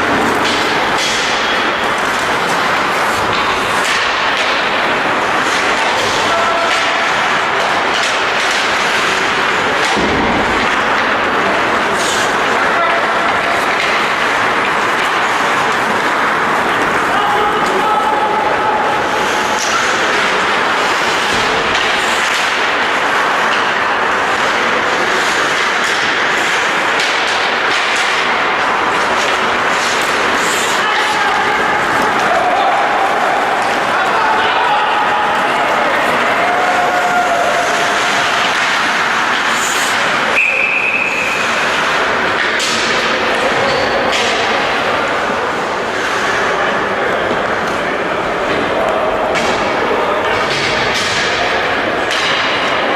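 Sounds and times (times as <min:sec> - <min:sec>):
hockey sticks clicking on puck: 0:00.0 - 0:52.9
skates scraping on ice: 0:00.0 - 0:52.9
team sports game noise: 0:00.0 - 0:52.9.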